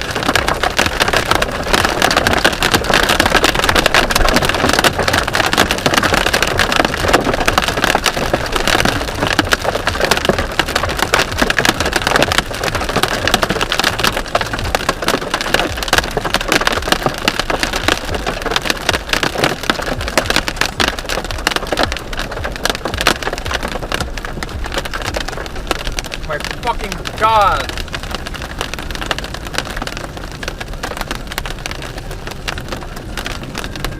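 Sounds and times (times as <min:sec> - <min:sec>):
car driving rumble: 0:00.0 - 0:33.9
hail pelting car roof: 0:00.0 - 0:33.9.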